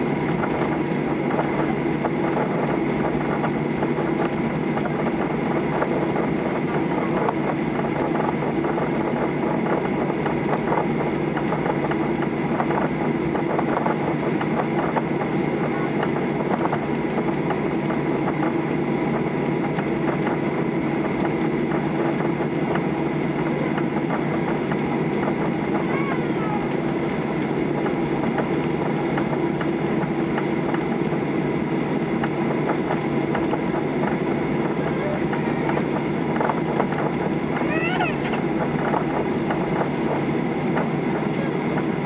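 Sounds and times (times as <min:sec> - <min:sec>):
aircraft cabin engine hum: 0:00.0 - 0:42.0.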